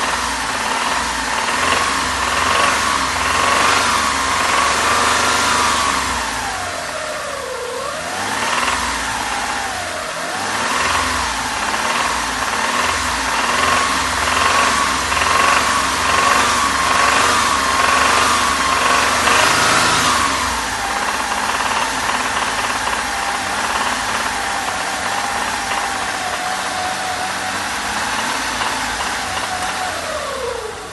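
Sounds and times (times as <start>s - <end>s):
car engine running with a knock: 0.0s - 6.4s, 8.2s - 9.7s, 10.3s - 30.9s.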